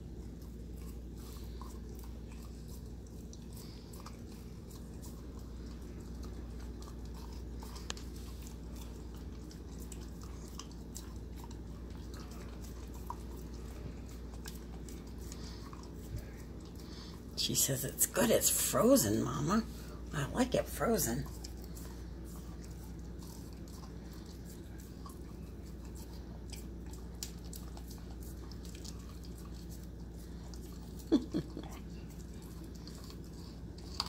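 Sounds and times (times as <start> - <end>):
puppy crunching on bone: 0.0 - 17.4, 18.0 - 34.0.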